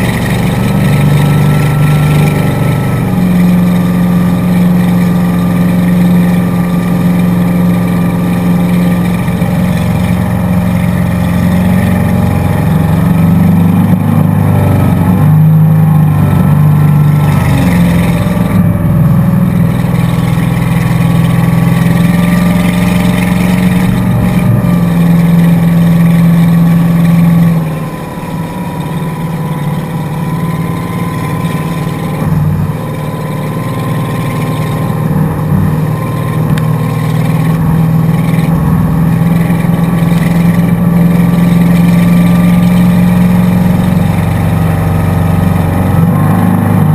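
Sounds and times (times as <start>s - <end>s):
motorboat engine running: 0.0s - 46.9s.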